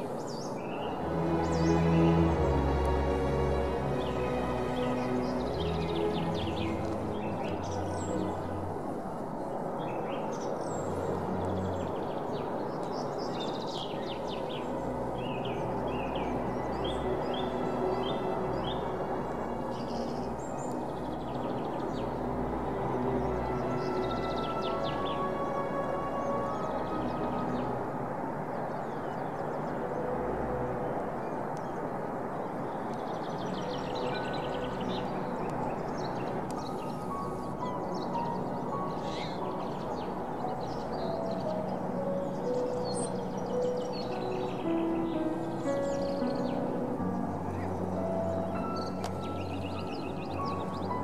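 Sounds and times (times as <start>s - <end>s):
birds chirping: 0.0s - 51.0s
steady rushing background noise: 0.0s - 51.0s.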